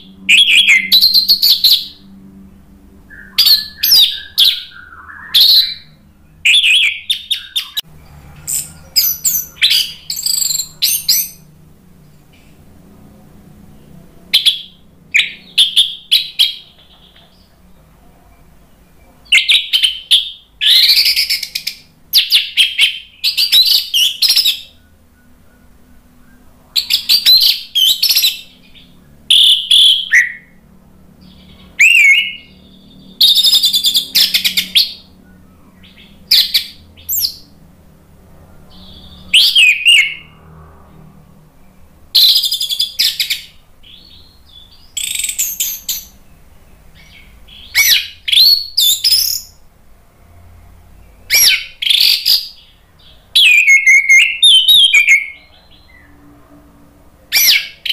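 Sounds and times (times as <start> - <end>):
thrush singing: 0.0 - 49.6.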